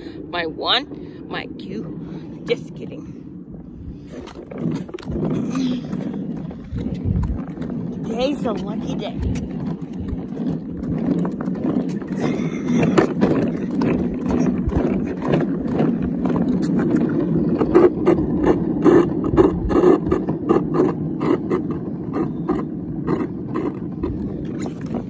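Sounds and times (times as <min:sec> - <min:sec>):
toy car wheels rolling on concrete: 0:01.8 - 0:25.0.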